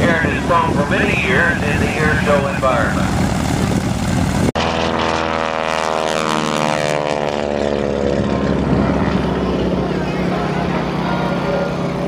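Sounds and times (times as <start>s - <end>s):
propeller airplane engine drone: 0.0s - 12.0s.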